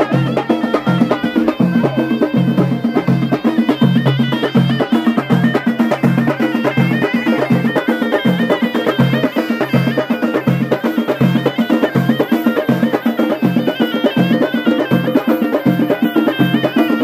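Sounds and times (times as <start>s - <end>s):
drum beat: 0.0s - 17.0s
frame drums: 0.0s - 17.0s
reed shawm melody: 0.0s - 17.0s.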